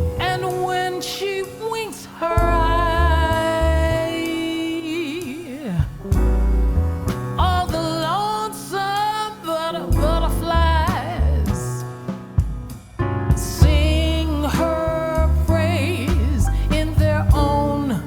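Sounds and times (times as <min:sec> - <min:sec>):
woman singing: 0:00.0 - 0:06.2, 0:07.4 - 0:11.9, 0:13.4 - 0:18.0
jazz band playing: 0:00.0 - 0:18.0.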